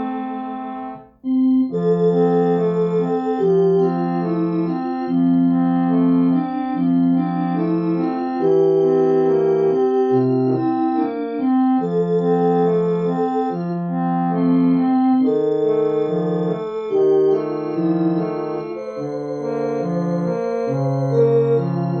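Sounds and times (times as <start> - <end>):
electronic organ playing slow piece: 0.0 - 22.0.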